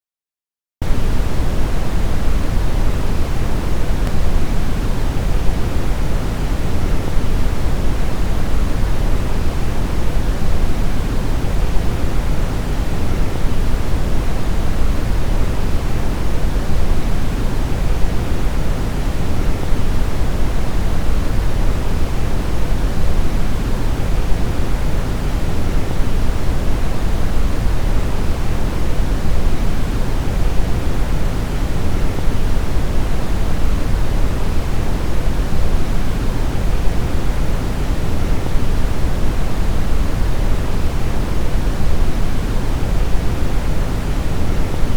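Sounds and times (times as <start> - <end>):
brown noise hiss: 0.8 - 44.9.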